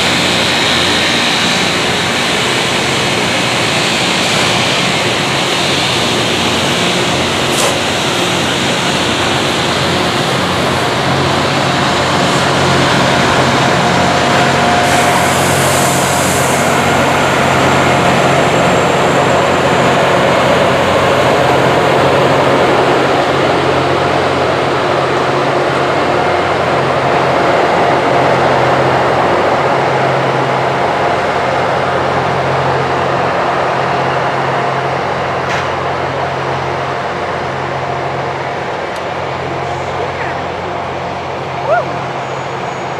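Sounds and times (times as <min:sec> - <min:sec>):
rail grinder train rumbling: 0:00.0 - 0:42.9.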